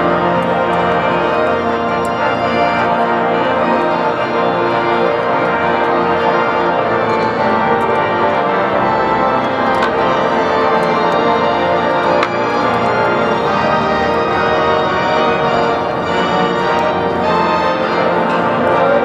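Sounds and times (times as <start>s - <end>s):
pipe organ playing chords: 0.0s - 19.0s.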